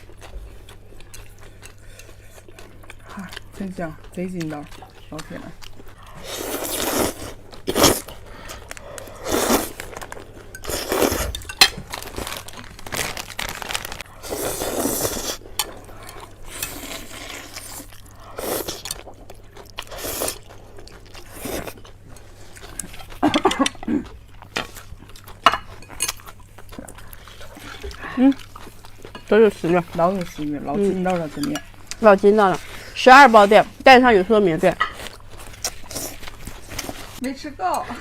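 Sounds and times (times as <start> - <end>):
chewing and mouth noises: 0.0 - 33.8, 34.7 - 37.2.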